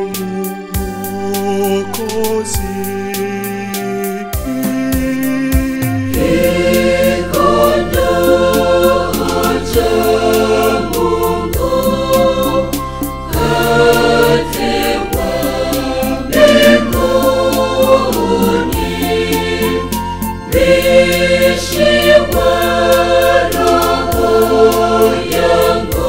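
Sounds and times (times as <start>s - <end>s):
backing music with steady beat: 0.0s - 26.0s
mixed choir singing gospel: 0.0s - 26.0s.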